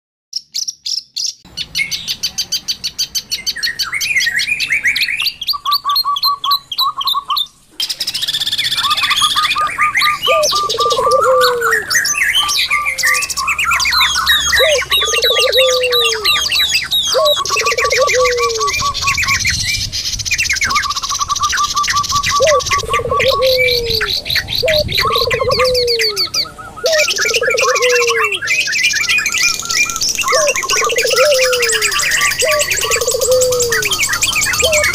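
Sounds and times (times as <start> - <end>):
songbirds chirping and trilling: 0.4 - 34.9.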